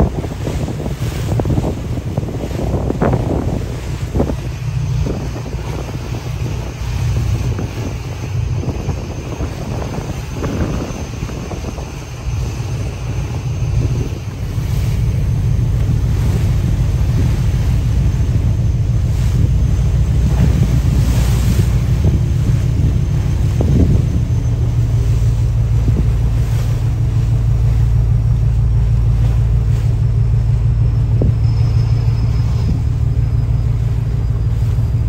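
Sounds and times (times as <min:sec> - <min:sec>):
waves sloshing and splashing: 0:00.0 - 0:35.0
wind buffeting microphone: 0:00.0 - 0:35.0.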